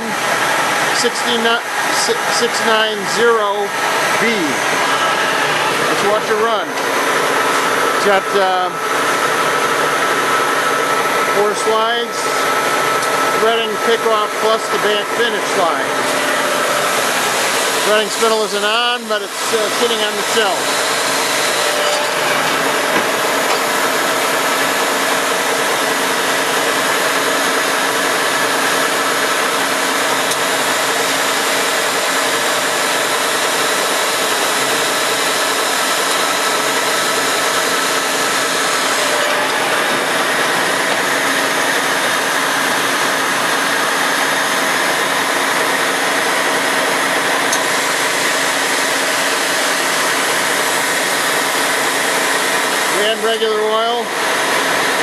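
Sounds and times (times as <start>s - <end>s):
screw machine whirring: 9.0s - 55.0s.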